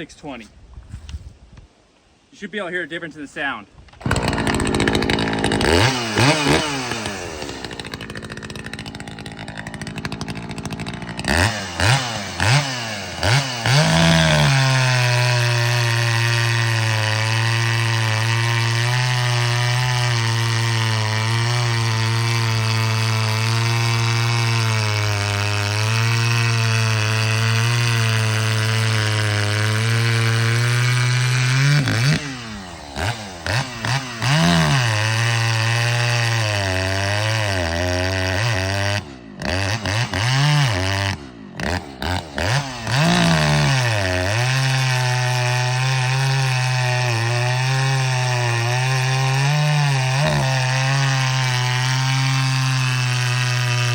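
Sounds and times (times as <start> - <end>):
chainsaw revving and cutting: 4.0 - 53.9.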